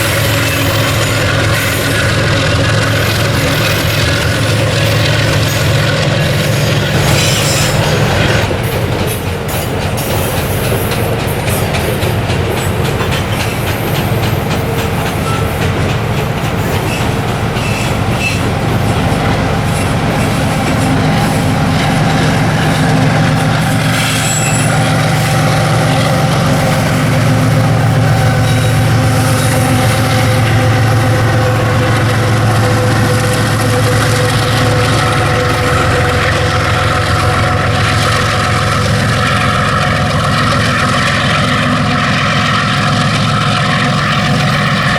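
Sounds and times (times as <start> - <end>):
low diesel drone: 0.0 - 13.5, 14.4 - 44.9
train wheel squeal: 0.0 - 44.9
train wheels clicking on rail joints: 0.0 - 44.9.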